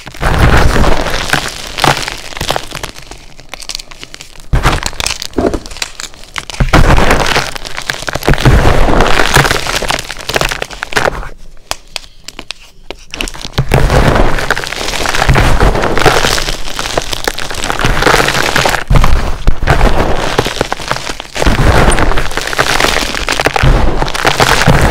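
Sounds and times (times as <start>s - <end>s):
chalk blocks being crushed: 0.0s - 24.9s.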